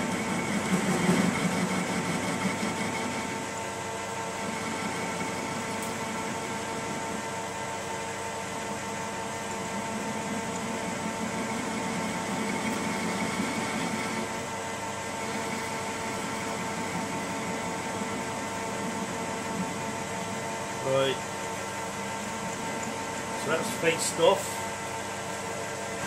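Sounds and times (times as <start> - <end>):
metal lathe whining: 0.0 - 3.6, 4.3 - 7.3, 9.4 - 24.9.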